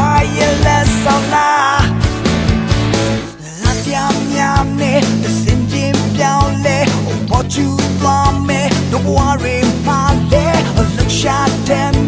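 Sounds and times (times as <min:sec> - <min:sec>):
man singing: 0:00.0 - 0:02.2, 0:03.2 - 0:12.0
pop rock band playing: 0:00.0 - 0:12.0.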